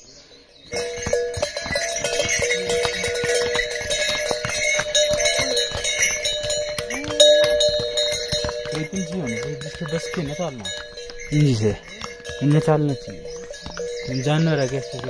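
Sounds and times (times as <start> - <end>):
animal bells jangling: 0.0 - 15.0
hooves clattering on stone: 0.6 - 15.0.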